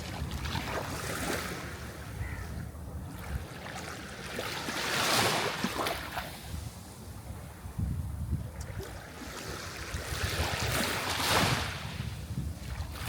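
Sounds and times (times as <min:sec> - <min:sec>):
sea waves breaking: 0:00.0 - 0:07.7, 0:08.5 - 0:13.0.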